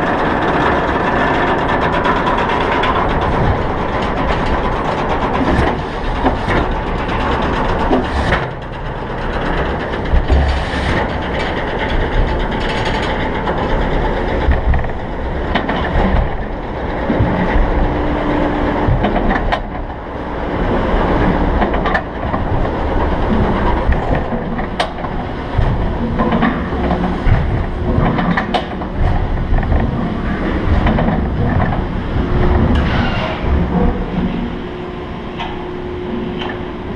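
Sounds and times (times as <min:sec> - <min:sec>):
clanks and knocks: 0:00.0 - 0:36.8
roller coaster wheels rumbling: 0:00.0 - 0:36.9.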